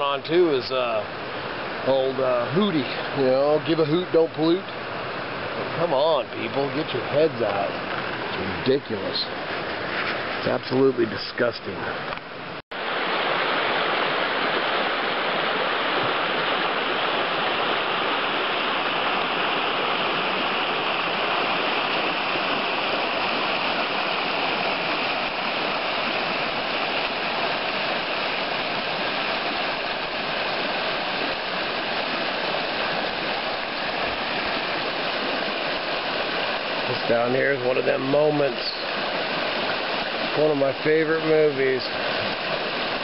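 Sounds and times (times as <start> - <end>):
river rushing over rocks: 0.0 - 9.8, 10.4 - 43.0.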